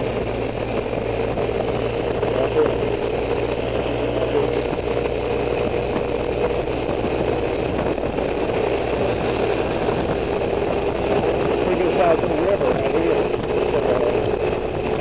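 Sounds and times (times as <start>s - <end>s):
motorcycle engine running: 0.0s - 15.0s
road noise: 0.0s - 15.0s
wind: 0.0s - 15.0s.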